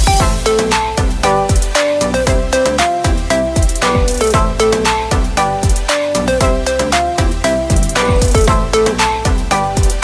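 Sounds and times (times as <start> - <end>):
deep kick drum: 0.0 - 10.0
electronic music: 0.0 - 10.0.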